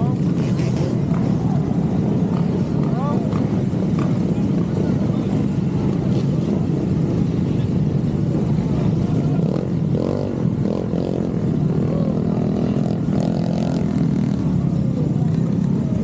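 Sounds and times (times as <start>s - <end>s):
motorcycle engine: 0.0s - 16.0s
road noise: 0.0s - 16.0s.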